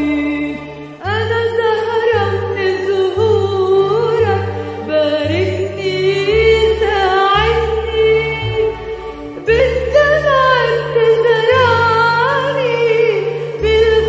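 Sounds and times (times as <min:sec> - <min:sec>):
low bass accompaniment: 0:00.0 - 0:14.0
woman singing: 0:00.0 - 0:14.0.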